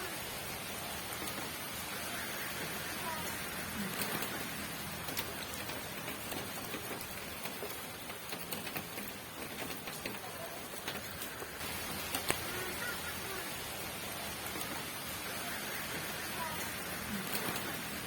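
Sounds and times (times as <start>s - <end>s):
raindrops ticking on surface: 0.0s - 18.0s
steady rain hiss: 0.0s - 18.0s.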